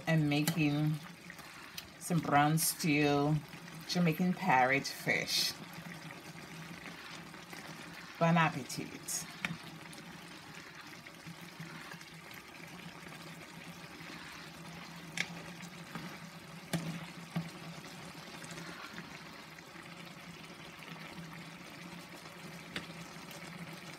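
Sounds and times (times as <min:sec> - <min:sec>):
sauce simmering in a skillet: 0:00.0 - 0:23.9.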